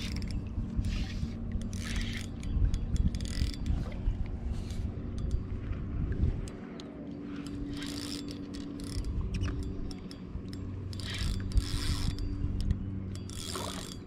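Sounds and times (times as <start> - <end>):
fishing reel gears whirring: 0.0 - 14.0
steady low hum: 0.0 - 14.0.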